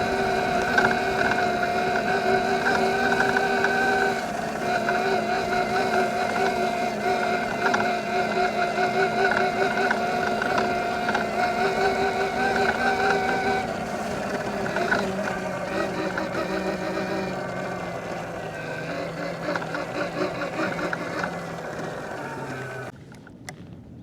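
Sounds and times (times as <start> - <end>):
electric motor whining: 0.0 - 22.9.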